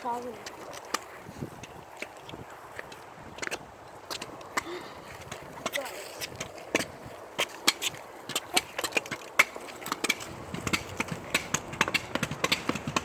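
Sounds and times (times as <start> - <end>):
footsteps crunching on trail: 0.0 - 13.0.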